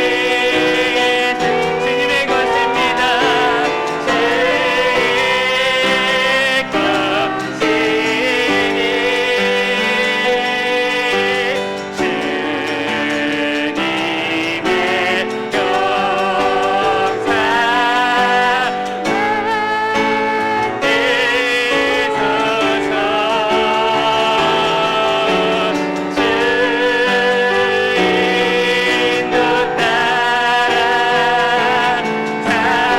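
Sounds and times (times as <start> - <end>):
piano chords: 0.0 - 32.9
worship team singing: 0.0 - 32.9.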